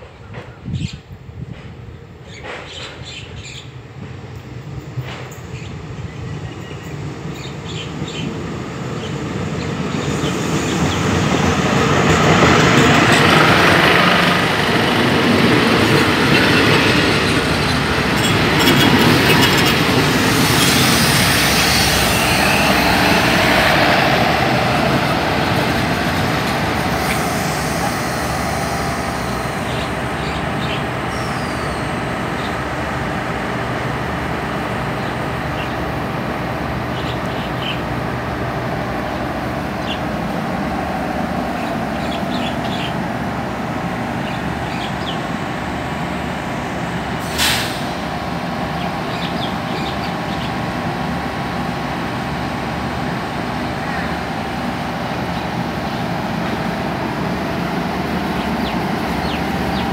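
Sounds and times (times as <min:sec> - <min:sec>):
diesel train engines: 0:00.0 - 0:59.9
train wheels on rails: 0:00.0 - 0:59.9.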